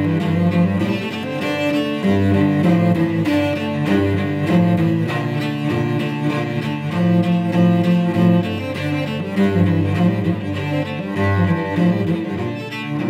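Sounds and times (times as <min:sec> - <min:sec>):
bowed cello: 0:00.0 - 0:13.0.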